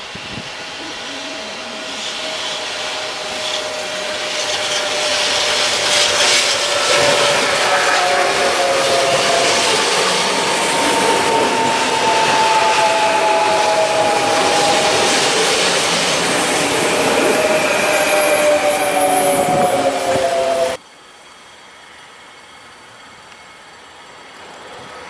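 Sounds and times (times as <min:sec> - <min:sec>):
train wheels rumbling on rails: 0:00.0 - 0:20.8
electric train whine: 0:00.0 - 0:25.0.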